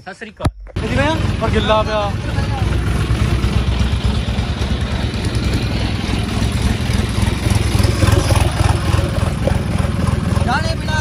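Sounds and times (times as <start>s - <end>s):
vehicle engine running: 0.5s - 11.0s.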